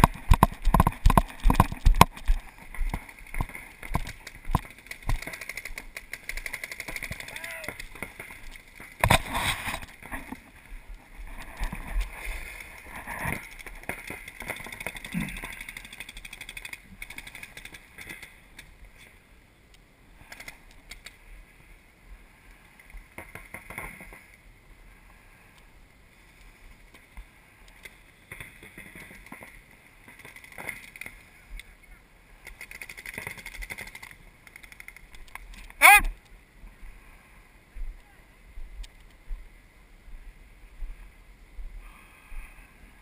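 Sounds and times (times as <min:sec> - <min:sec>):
outdoor background noise: 0:00.0 - 0:43.0.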